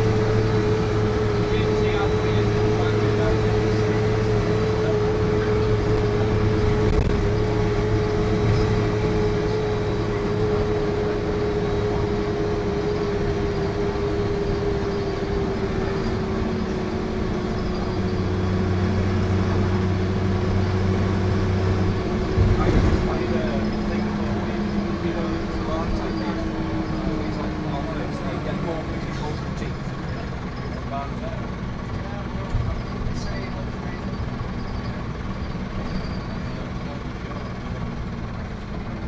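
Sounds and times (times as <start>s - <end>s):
bus engine hum with whine: 0.0s - 39.0s.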